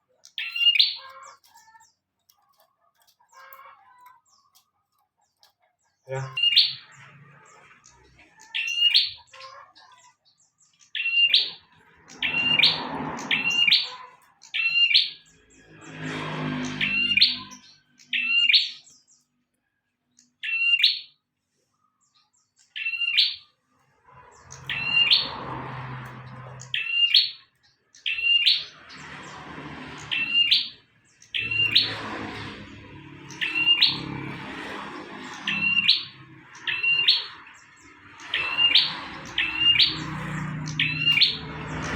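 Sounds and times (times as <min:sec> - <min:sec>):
bird high sharp chirps: 0:00.1 - 0:01.9, 0:06.0 - 0:19.2, 0:20.2 - 0:21.2, 0:22.6 - 0:23.5, 0:24.3 - 0:25.4, 0:26.4 - 0:41.9.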